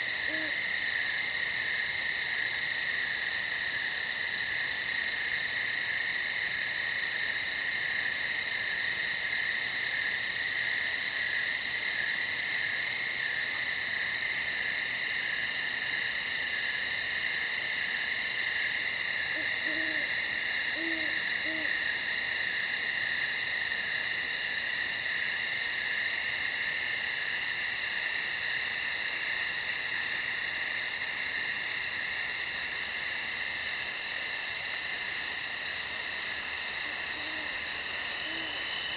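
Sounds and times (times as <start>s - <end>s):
night insects chorus: 0.0s - 38.9s.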